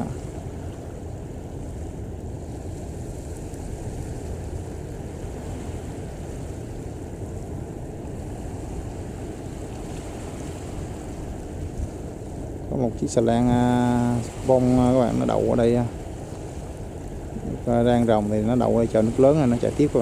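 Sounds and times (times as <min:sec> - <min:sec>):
ship engine rumble: 0:00.0 - 0:20.0
wind buffeting microphone: 0:00.0 - 0:20.0.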